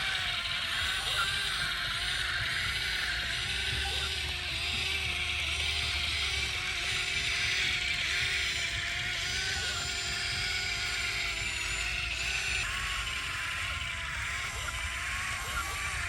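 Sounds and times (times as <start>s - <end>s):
excavator engine and hydraulics drone: 0.0s - 16.0s.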